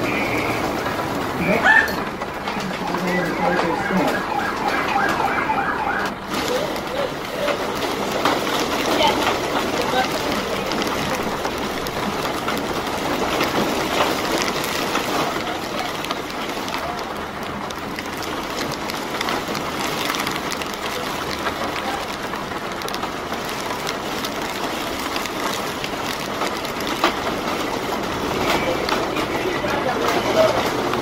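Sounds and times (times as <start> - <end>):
rain pattering on an umbrella: 0.0 - 31.0.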